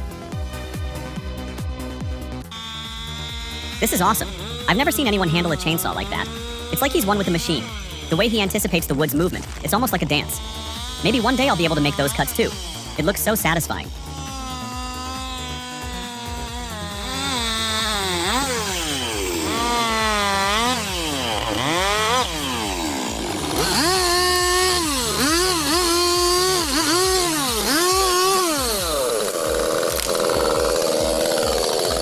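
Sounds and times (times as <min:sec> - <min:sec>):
chainsaw engine revving: 0:02.2 - 0:32.0.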